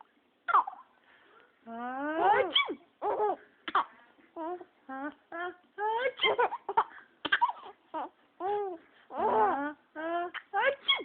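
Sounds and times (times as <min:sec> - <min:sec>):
baby laughing: 0:00.5 - 0:00.9, 0:02.2 - 0:11.0.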